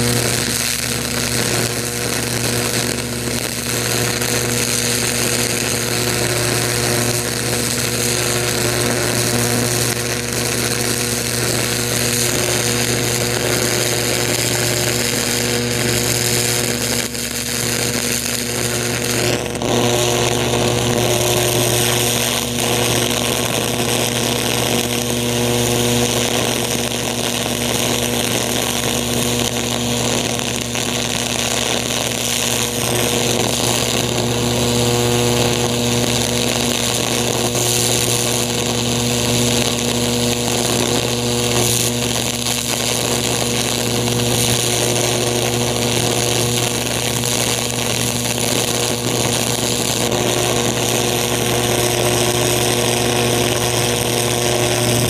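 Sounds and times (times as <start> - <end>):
electric arc crackling buzz: 0.0 - 55.0
electrical hum: 0.0 - 55.0.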